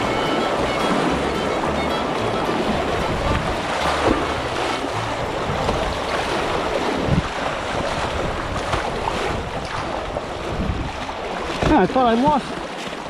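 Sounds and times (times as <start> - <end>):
creek water rushing: 0.0 - 13.0
water splashing against kayak: 0.0 - 13.0.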